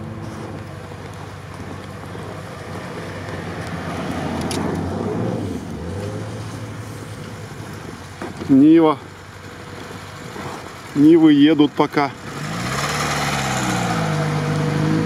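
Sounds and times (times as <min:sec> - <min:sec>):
car engine passing: 0:00.0 - 0:11.0, 0:11.6 - 0:15.0
tyre noise on snow: 0:00.0 - 0:15.0.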